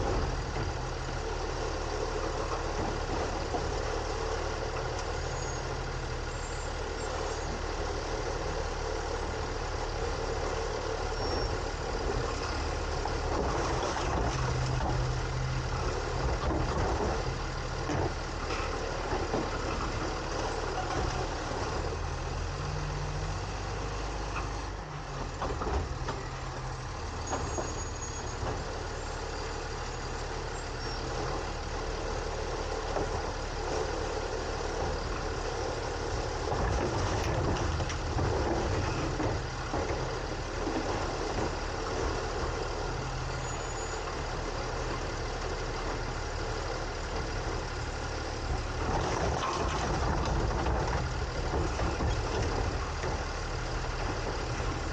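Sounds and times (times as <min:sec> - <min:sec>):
garbage truck engine hum: 0:00.0 - 0:54.9.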